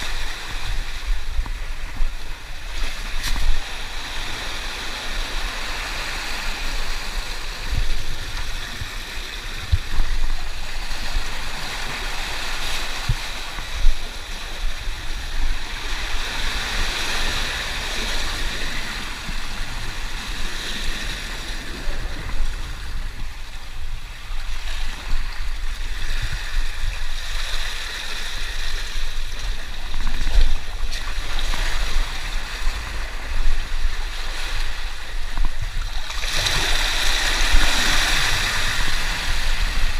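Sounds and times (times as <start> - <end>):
waves washing over rocks: 0.0 - 39.9.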